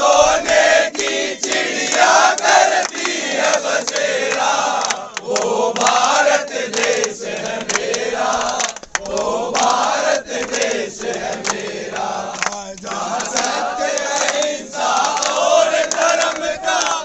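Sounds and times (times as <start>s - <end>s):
men chanting and singing: 0.0s - 17.0s
hand claps: 0.4s - 17.0s.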